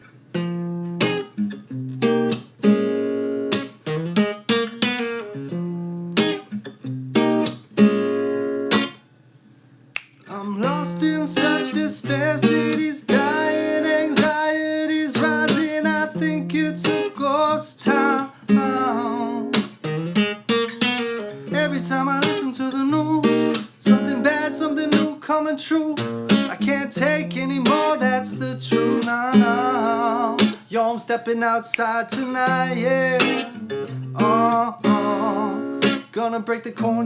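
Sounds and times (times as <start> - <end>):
acoustic guitar picked melody: 0.0 - 37.0.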